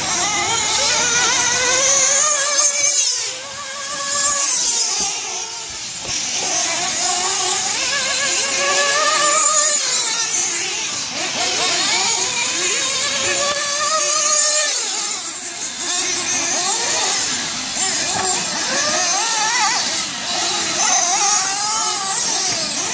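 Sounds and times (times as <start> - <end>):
high-revving model car engine: 0.0 - 22.9.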